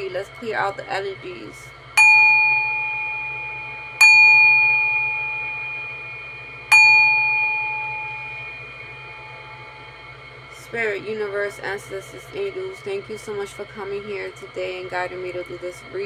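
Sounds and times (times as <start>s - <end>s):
singing bowl ringing: 1.9s - 16.0s.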